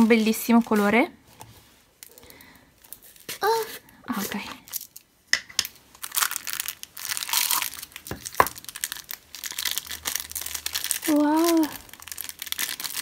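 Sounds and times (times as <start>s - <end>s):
plastic film crinkling: 0.0s - 1.1s, 1.7s - 13.0s.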